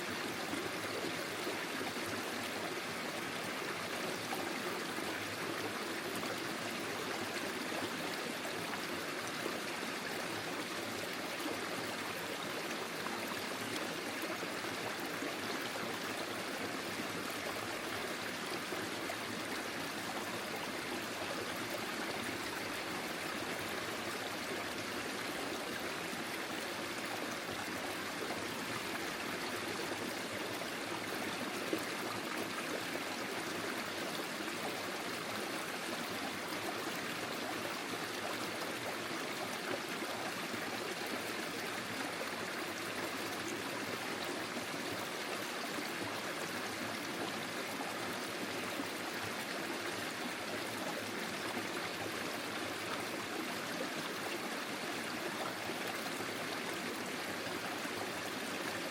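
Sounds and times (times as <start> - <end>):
stream flowing over stones: 0.0 - 58.9.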